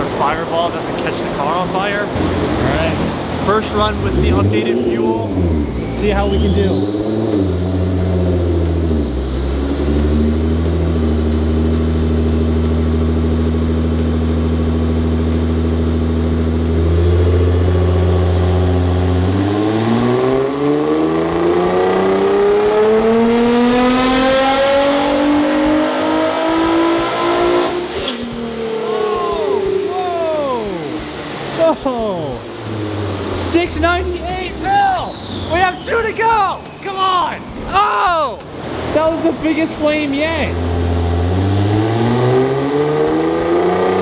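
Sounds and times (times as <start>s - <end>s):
car engine revving on a dyno: 0.0s - 35.9s, 38.5s - 44.0s.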